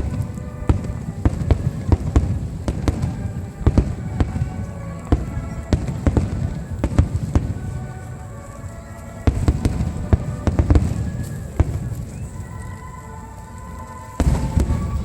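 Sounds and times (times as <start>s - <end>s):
fireworks bangs: 0.0s - 13.2s, 13.8s - 15.0s
music: 0.0s - 15.0s.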